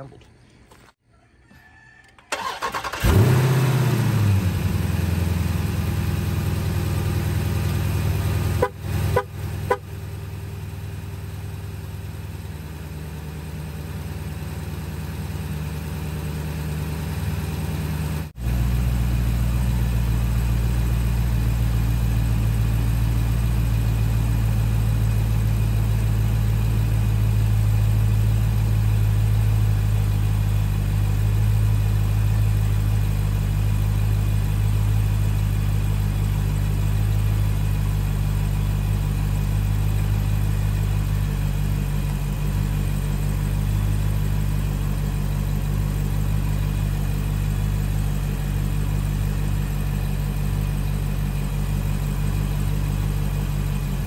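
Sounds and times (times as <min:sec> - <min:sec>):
car engine idling: 0:02.4 - 0:54.0.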